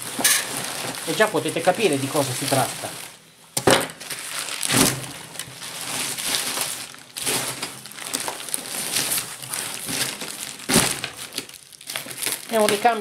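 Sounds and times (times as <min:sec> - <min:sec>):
bubble wrap and paper crinkling: 0:00.0 - 0:13.0.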